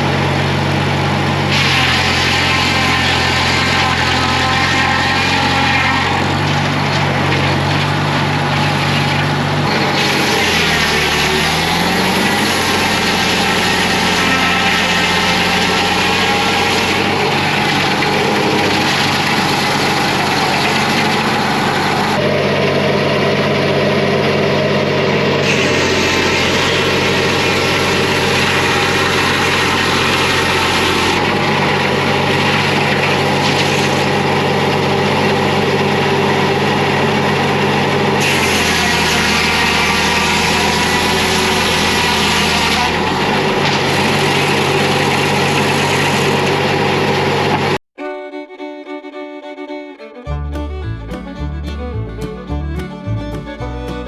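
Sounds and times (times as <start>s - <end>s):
bandsaw sawmill running: 0.0s - 47.8s, 49.7s - 54.0s.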